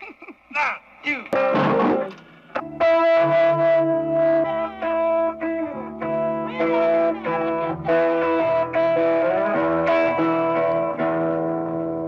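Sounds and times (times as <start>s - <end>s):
electric guitar bent notes: 1.3s - 12.0s.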